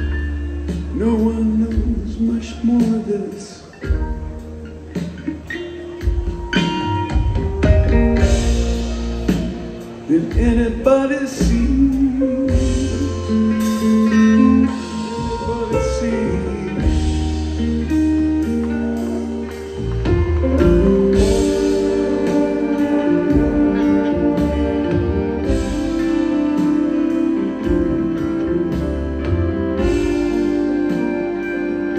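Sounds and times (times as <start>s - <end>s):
rock band with horns playing: 0.0s - 31.9s.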